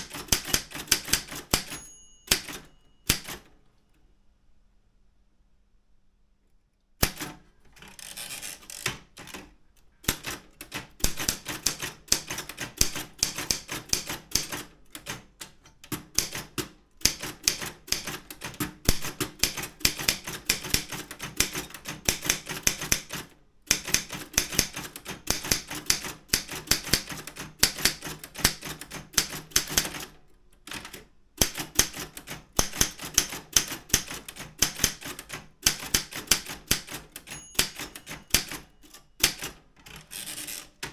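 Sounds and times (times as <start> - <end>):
manual typewriter typing: 0.0 - 3.5, 7.0 - 40.9.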